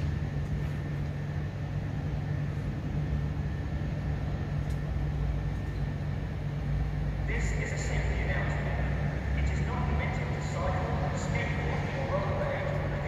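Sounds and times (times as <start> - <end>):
electrical hum of trains: 0.0 - 13.0.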